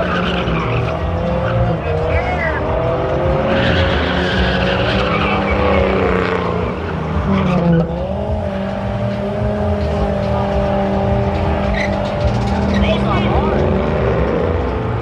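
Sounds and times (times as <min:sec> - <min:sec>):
tires squealing: 0:00.0 - 0:15.0
truck engine revving high: 0:00.0 - 0:15.0.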